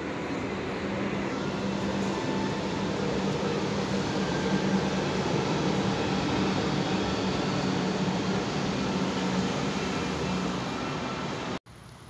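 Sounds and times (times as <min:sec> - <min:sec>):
electric train passing: 0:00.0 - 0:11.6.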